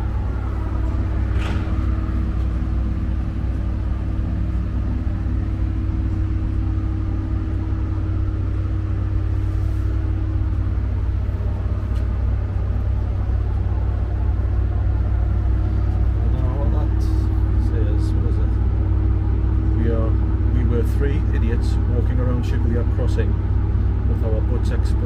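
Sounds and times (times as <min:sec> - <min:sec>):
low rumble: 0:00.0 - 0:25.0
mid-pitched hum: 0:00.0 - 0:25.0.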